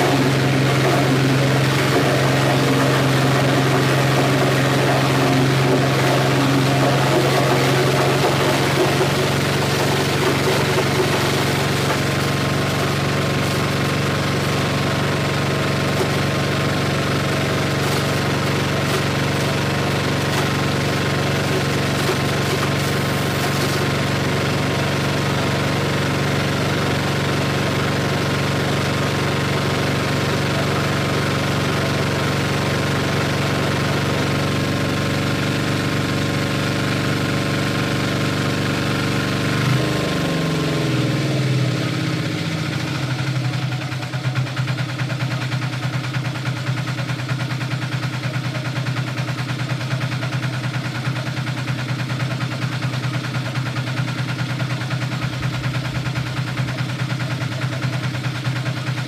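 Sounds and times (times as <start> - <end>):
small stationary engine running: 0.0 - 59.0.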